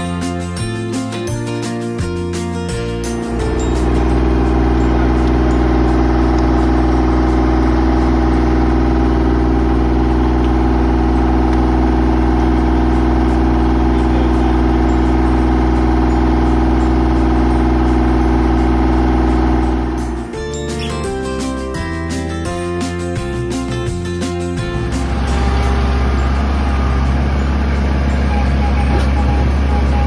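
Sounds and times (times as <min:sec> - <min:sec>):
diesel engine idling: 0:02.0 - 0:30.0.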